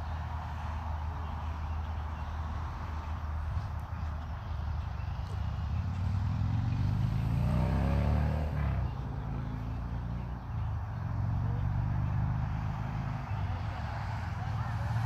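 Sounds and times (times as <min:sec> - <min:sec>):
low traffic rumble: 0:00.0 - 0:15.0
vehicle passing close by: 0:00.0 - 0:15.0.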